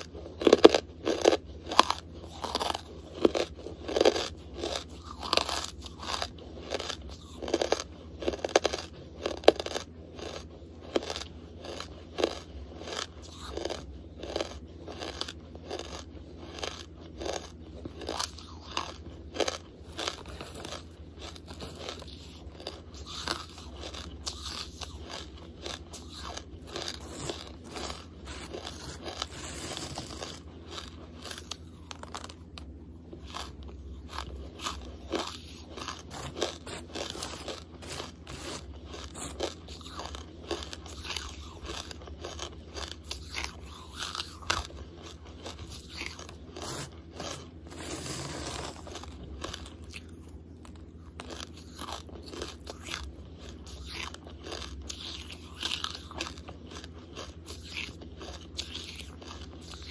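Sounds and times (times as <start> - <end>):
chewing hard charcoal: 0.0 - 59.9
steady low hum: 0.0 - 59.9.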